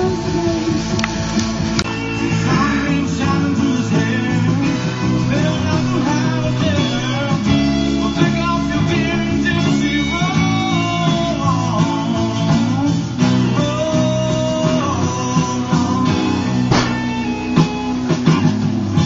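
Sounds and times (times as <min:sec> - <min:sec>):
guitar-led music: 0:00.0 - 0:19.0.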